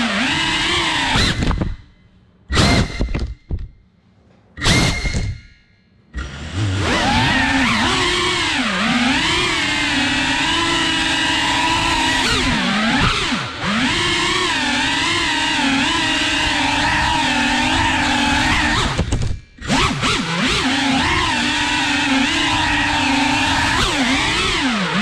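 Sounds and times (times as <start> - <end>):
quadcopter motors whining: 0.0 - 1.8, 6.2 - 25.0.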